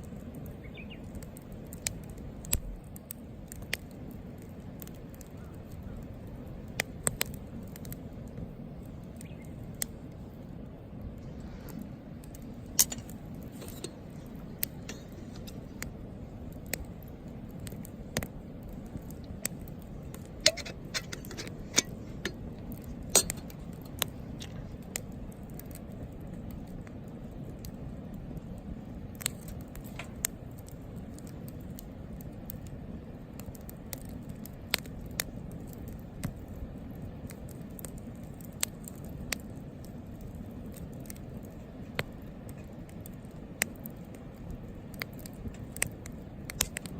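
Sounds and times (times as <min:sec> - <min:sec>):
campfire crackling: 0:00.0 - 0:46.9
low background noise: 0:00.0 - 0:46.9.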